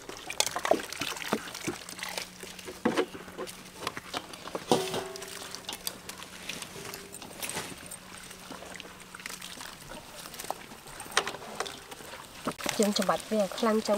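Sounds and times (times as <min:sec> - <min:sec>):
water pouring from jug: 0:00.0 - 0:13.9
wet coconut squelching in bowl: 0:00.0 - 0:13.9.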